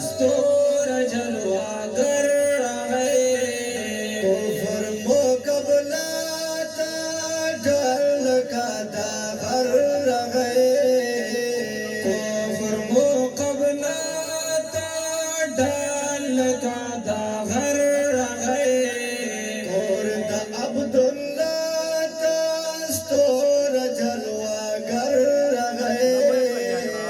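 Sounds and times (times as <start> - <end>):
person singing devotional song: 0.0 - 27.0.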